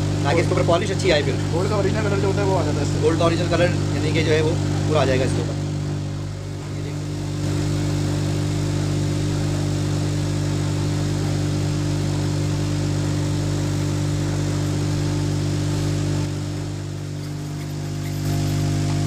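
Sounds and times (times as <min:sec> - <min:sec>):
blowtorch flame hissing: 0:00.0 - 0:19.0
steady low hum: 0:00.0 - 0:19.0.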